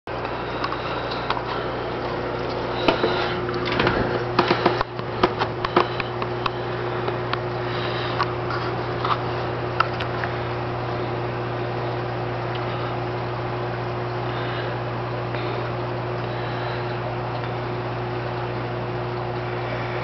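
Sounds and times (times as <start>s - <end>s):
aquarium equipment humming: 0.1s - 20.0s.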